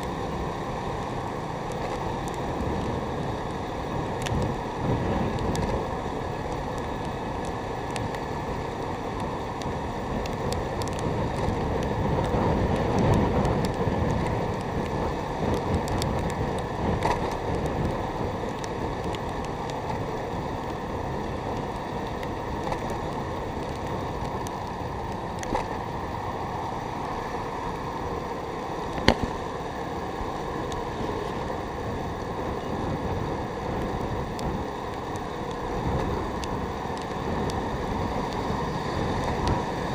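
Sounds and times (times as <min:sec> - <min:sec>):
wind and road noise: 0:00.0 - 0:39.9
wind buffeting microphone: 0:00.0 - 0:39.9.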